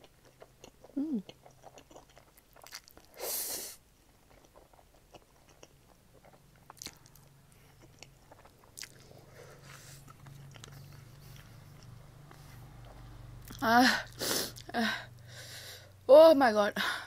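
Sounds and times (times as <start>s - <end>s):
close-up chewing: 0.0s - 3.2s, 4.0s - 14.7s.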